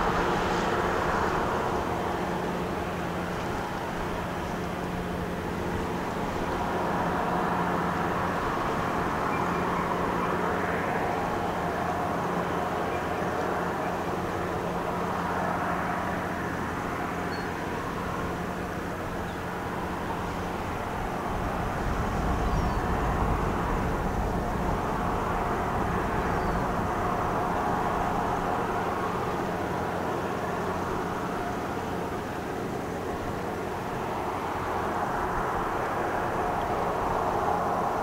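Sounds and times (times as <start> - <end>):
ship diesel engines droning: 0.0 - 38.0.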